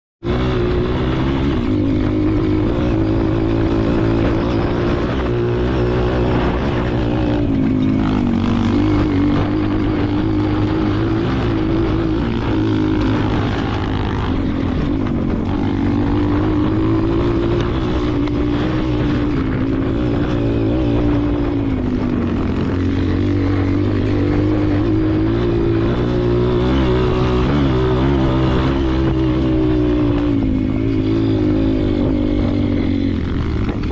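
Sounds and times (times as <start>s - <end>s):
dirt bike engine revving: 0.2s - 33.9s.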